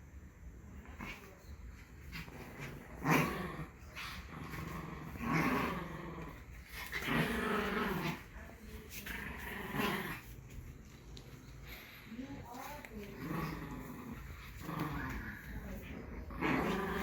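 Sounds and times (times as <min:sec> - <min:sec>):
dog growling: 0:00.8 - 0:10.4, 0:12.9 - 0:17.0.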